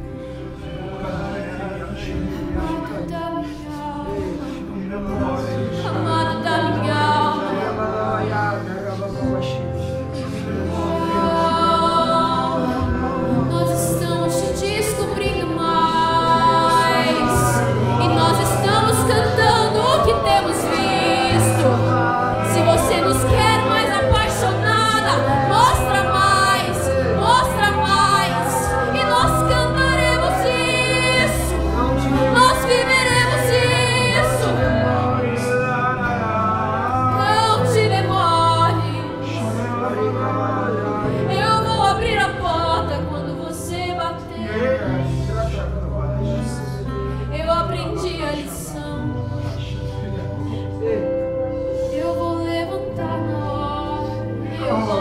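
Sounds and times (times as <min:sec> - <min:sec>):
woman singing: 0:00.0 - 0:08.4, 0:09.3 - 0:45.3, 0:46.5 - 0:55.0
acoustic guitar: 0:00.0 - 0:55.0
keyboard: 0:00.0 - 0:55.0.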